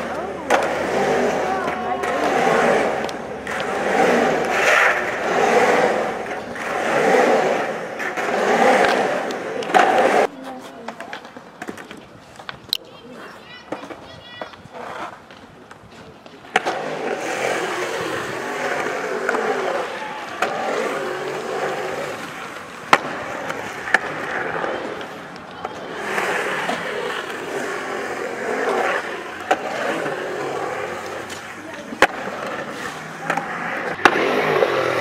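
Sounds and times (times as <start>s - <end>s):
skateboard clacking: 0.0s - 35.0s
skateboard wheels rolling on concrete: 0.0s - 35.0s.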